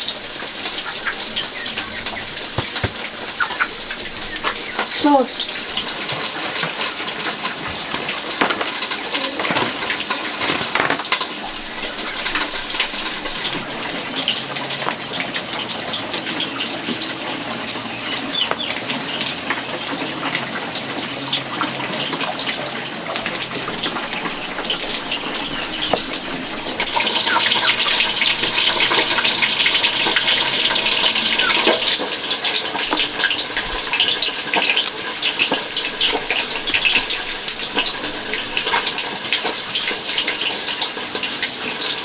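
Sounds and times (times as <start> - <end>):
running water rushing: 0.0 - 42.0.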